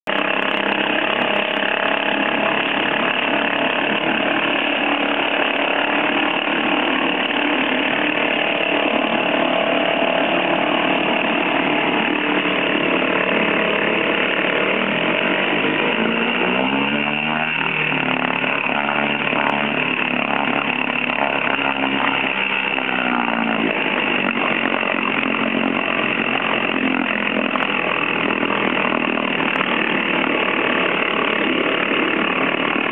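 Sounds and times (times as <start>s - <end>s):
outboard motor running: 0.0s - 32.9s
propeller churning water: 0.1s - 32.9s.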